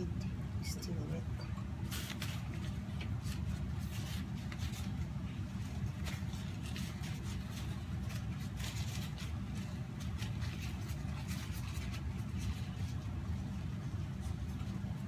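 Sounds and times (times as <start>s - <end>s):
steady low hum: 0.0s - 15.0s
paper towel rustling: 1.6s - 15.0s.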